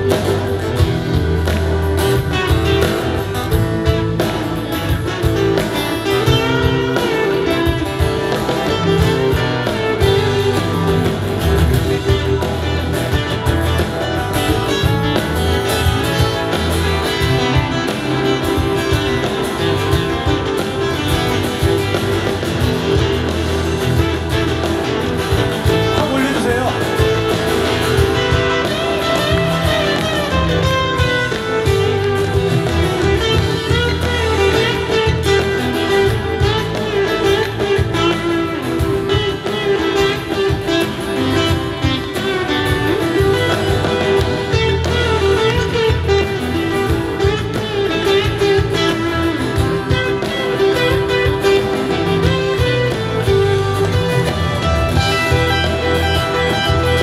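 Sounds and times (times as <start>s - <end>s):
live pop band playing: 0.0s - 57.0s.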